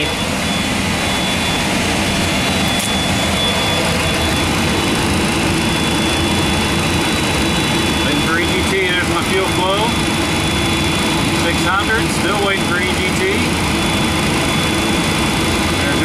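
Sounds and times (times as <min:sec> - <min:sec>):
jet engine rushing noise: 0:00.0 - 0:16.0
thin high whine: 0:00.0 - 0:16.0.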